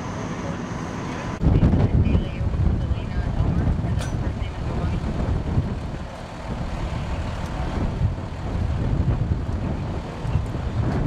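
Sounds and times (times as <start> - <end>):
engine idling rumble: 0.0 - 11.0
wind buffeting microphone: 1.3 - 11.0.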